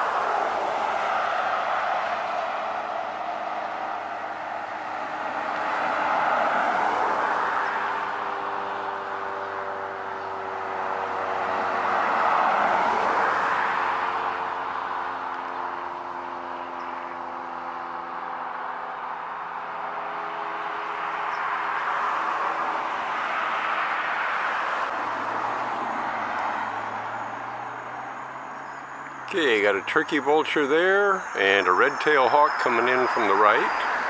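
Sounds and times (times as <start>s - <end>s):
vehicles passing: 0.0s - 34.0s.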